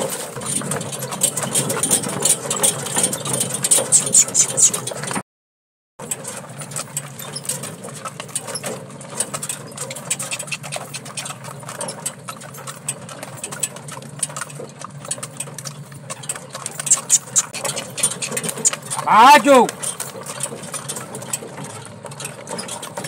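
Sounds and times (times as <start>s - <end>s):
harness rattling: 0.0s - 5.2s, 6.0s - 23.0s
hooves clattering: 0.0s - 5.2s, 6.0s - 23.0s
wheels on gravel: 0.0s - 5.2s, 6.0s - 23.0s.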